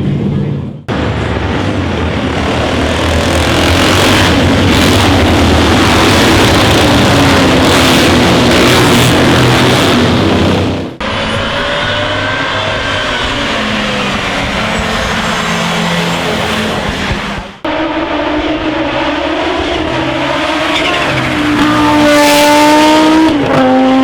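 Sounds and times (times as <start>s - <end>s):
another car engine: 0.0s - 24.0s
racing car engine at high revs: 0.8s - 24.0s.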